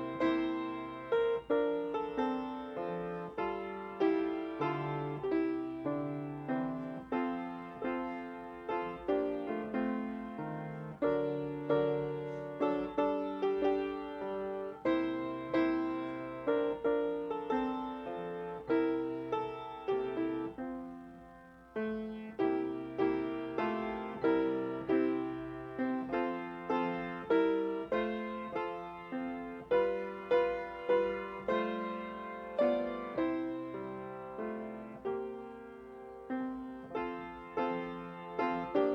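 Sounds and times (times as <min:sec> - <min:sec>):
slow solo piano piece: 0:00.0 - 0:38.9.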